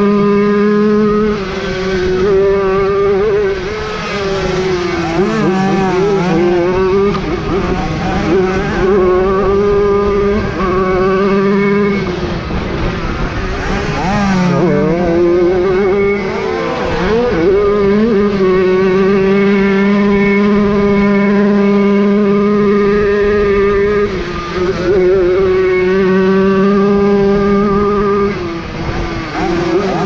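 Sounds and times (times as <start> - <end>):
two-stroke motorcycle engines revving: 0.0 - 30.0.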